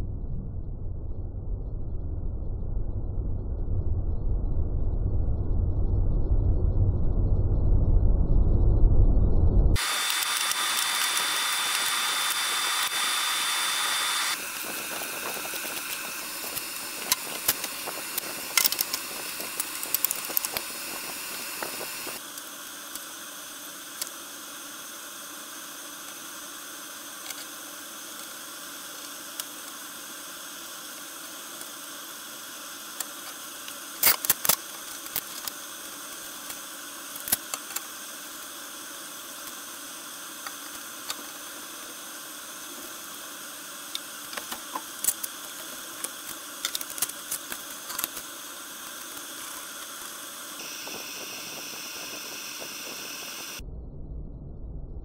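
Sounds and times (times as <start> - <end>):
background hiss and hum: 2.4 - 53.6.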